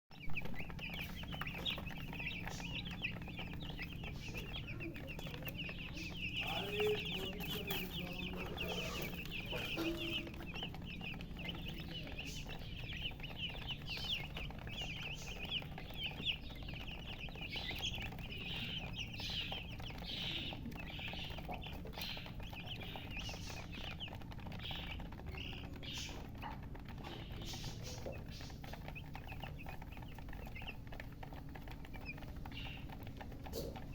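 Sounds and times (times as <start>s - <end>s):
chicks peeping: 0.1s - 33.9s
steady low hum: 0.1s - 33.9s.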